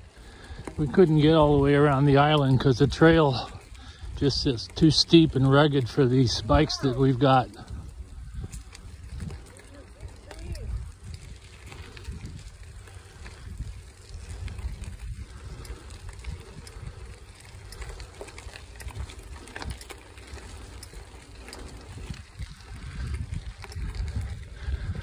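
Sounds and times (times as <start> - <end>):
bicycle tyres rolling on gravel: 0.0 - 25.0.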